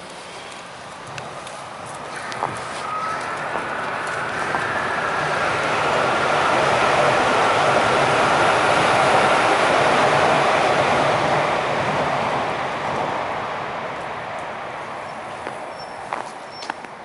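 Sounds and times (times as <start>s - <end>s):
passing vehicle rumble: 0.7s - 16.2s.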